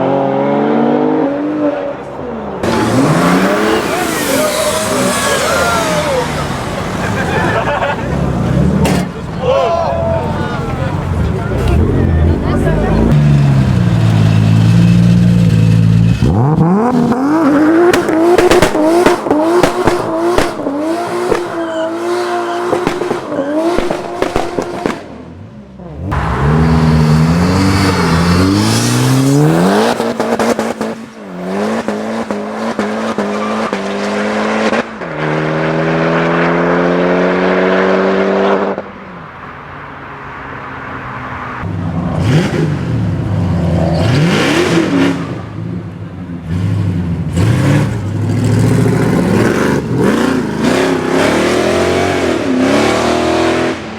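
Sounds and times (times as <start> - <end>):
car engines revving: 0.0 - 53.9.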